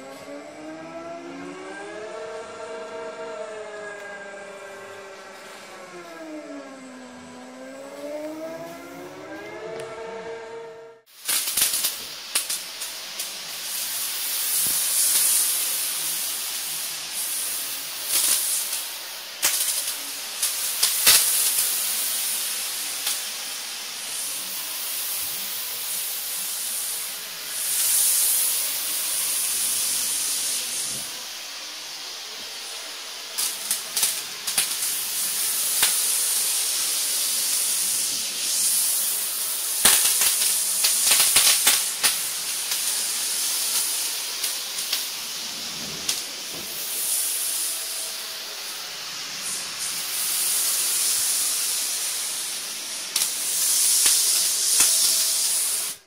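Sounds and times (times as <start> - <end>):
spray gun hissing: 11.1 - 56.0.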